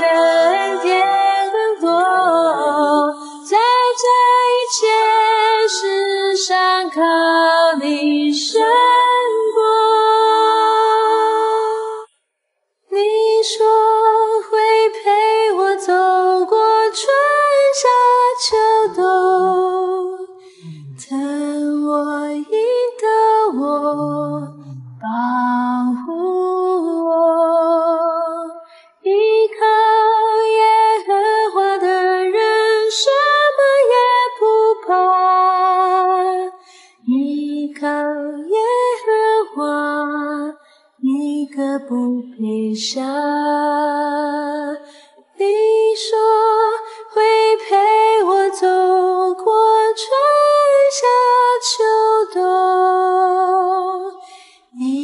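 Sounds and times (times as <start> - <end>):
a cappella singing: 0.0 - 12.1, 12.9 - 55.0.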